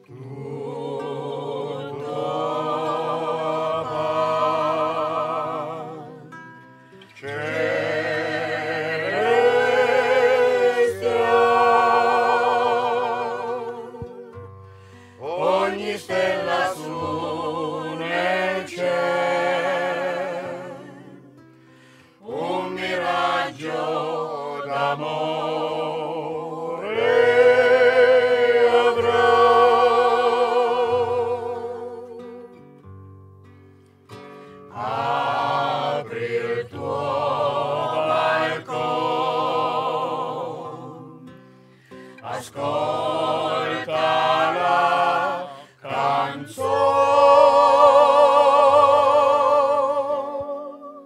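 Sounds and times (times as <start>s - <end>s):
group singing with vibrato: 0.0s - 21.4s, 22.1s - 32.6s, 34.6s - 51.0s.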